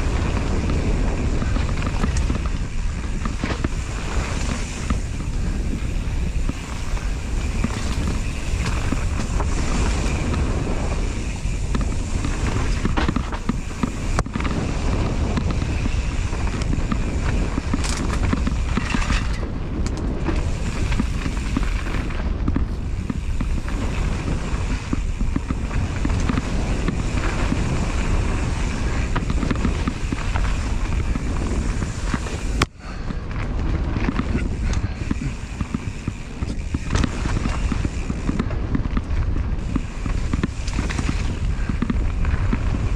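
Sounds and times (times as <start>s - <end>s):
bike rattling over bumps: 0.0s - 42.9s
bike tyres rolling over dirt: 0.0s - 42.9s
wind rumbling on microphone: 0.0s - 42.9s.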